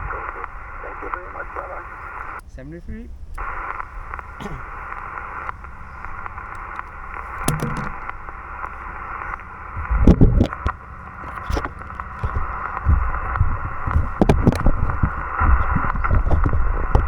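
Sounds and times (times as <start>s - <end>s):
microphone handling rumbles and clicks: 0.0s - 17.0s
radio static hiss: 0.0s - 17.0s.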